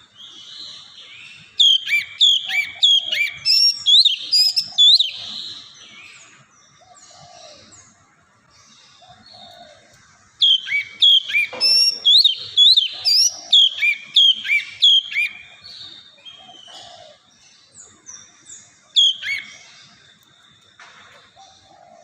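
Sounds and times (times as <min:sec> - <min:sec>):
bird singing whistled notes: 0:00.0 - 0:07.6, 0:10.4 - 0:20.7.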